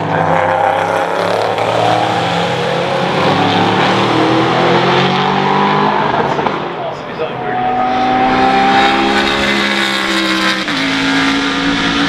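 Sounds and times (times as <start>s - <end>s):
racing car engine at high revs: 0.0s - 12.0s.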